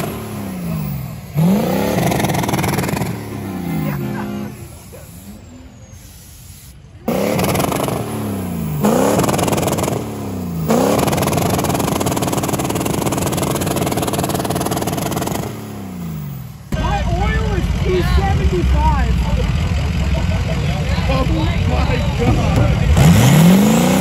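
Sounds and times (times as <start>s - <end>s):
diesel truck engine revving: 0.0s - 24.0s.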